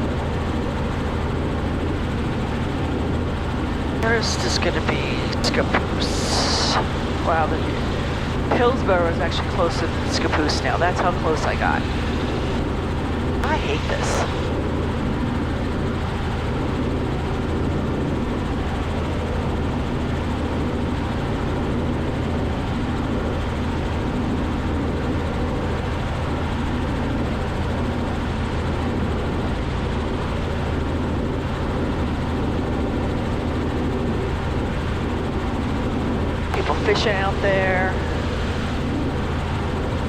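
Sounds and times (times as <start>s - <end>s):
helicopter engine and rotors droning: 0.0s - 40.0s.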